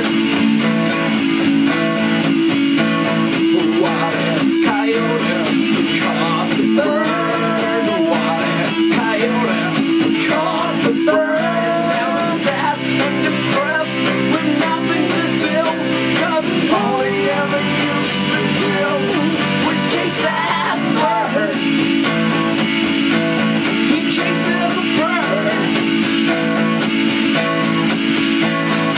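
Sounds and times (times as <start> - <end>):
acoustic guitar strumming: 0.0 - 28.9
electric guitar lead: 0.0 - 28.9.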